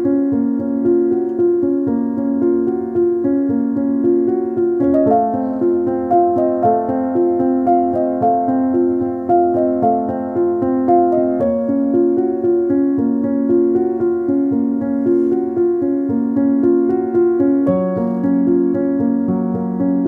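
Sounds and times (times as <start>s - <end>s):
instrumental music with held notes: 0.0s - 20.0s.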